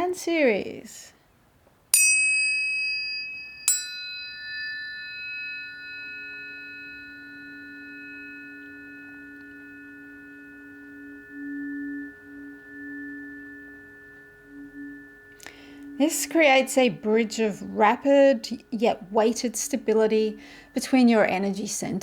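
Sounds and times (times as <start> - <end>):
tuning forks ringing: 1.9 - 22.0.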